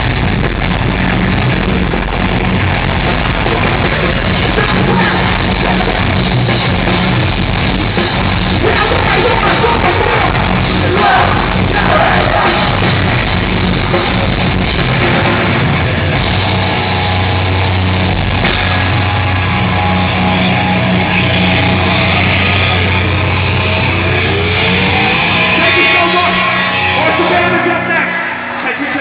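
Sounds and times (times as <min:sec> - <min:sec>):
guitar slides: 0:00.0 - 0:28.7
heavy metal band playing: 0:00.0 - 0:29.0.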